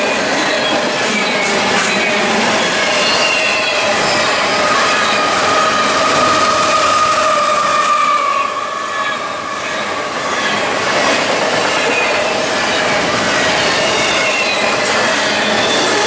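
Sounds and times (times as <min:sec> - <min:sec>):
train rolling noise: 0:00.0 - 0:16.0
train wheels squealing on rails: 0:00.0 - 0:16.0.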